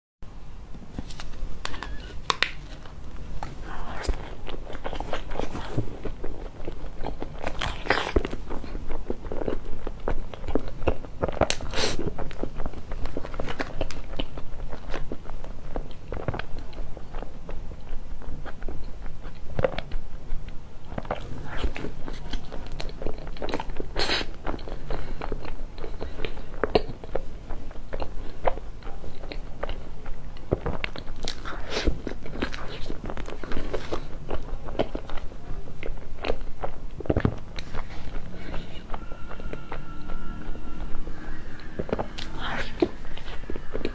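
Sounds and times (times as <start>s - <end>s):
chewing crepe cake: 1.6s - 43.9s.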